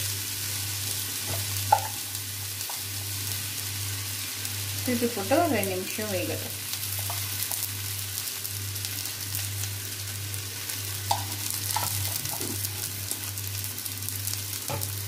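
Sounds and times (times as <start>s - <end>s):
dosa sizzling on a hot pan: 0.0s - 15.0s.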